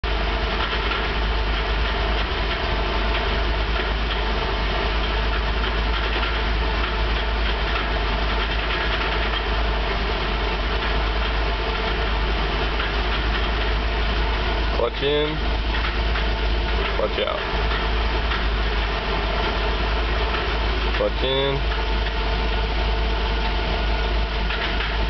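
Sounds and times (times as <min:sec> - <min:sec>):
engine idling hum: 0:00.0 - 0:25.0
transmission rattle: 0:00.5 - 0:22.7, 0:23.3 - 0:25.0.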